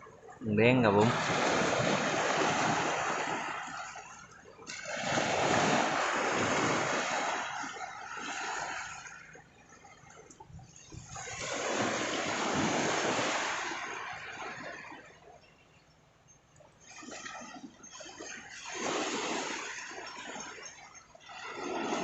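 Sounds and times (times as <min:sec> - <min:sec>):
sea waves washing on shore: 0:00.0 - 0:15.9, 0:16.5 - 0:22.0.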